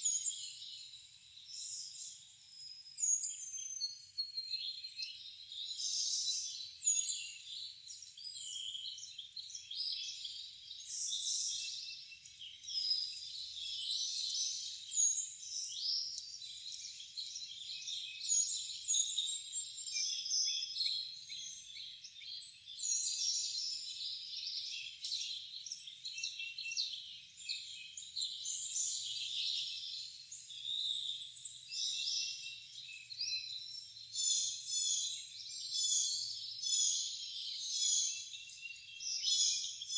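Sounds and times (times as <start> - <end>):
chorus of songbirds: 0.0 - 39.9.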